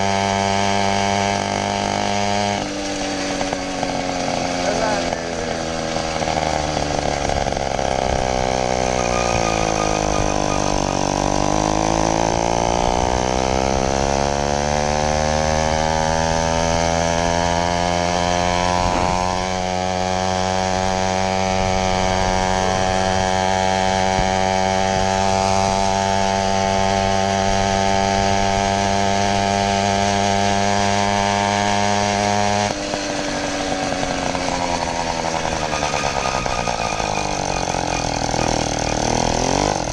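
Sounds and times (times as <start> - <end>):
two-stroke bicycle engine buzzing: 0.0 - 39.9.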